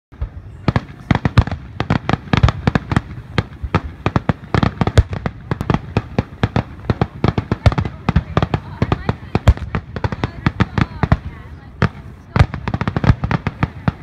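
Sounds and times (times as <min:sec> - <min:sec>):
fireworks bursting: 0:00.2 - 0:14.0.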